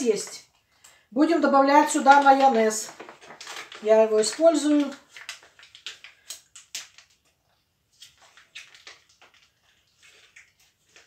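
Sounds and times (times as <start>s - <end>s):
plastic pack crinkling and squirting: 1.8s - 11.0s.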